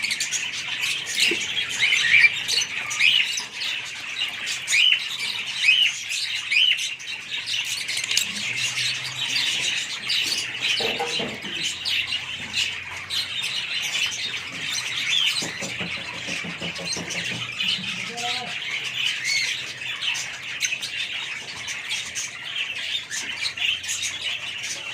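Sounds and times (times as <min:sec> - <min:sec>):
lovebirds chirping and squawking: 0:00.0 - 0:24.9.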